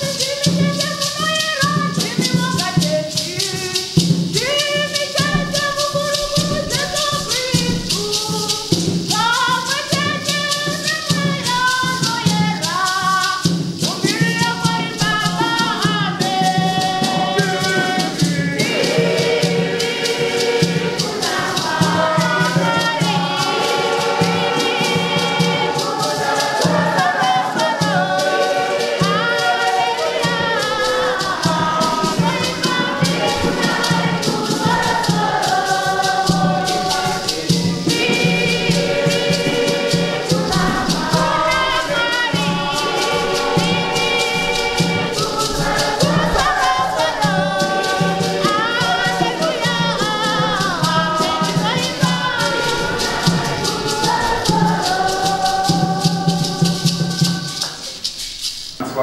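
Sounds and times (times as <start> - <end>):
choir singing: 0.0 - 59.0
shaker rattles: 0.0 - 59.0.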